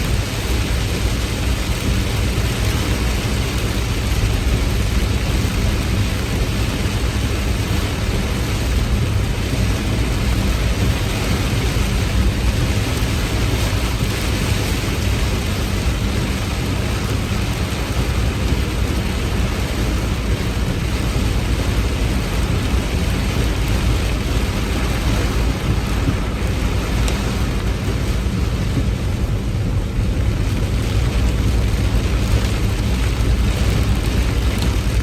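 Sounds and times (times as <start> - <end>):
heavy rain falling: 0.0 - 35.0
deep even rumble: 4.0 - 35.0.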